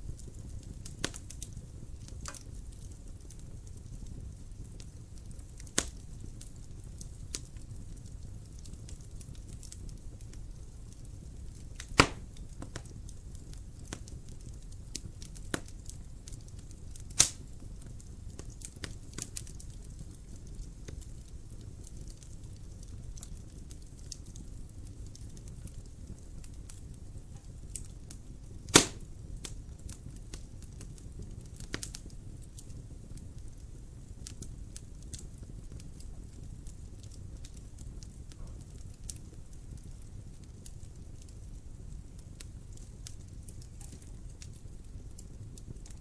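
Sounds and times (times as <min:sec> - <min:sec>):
fire crackling and popping: 0:00.0 - 0:46.0
fire rumbling: 0:00.0 - 0:46.0.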